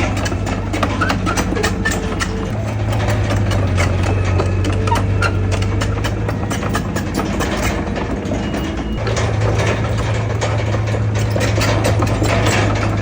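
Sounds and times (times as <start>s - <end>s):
heavy diesel engine running: 0.0s - 13.0s
metal clanks and rattles: 0.0s - 13.0s.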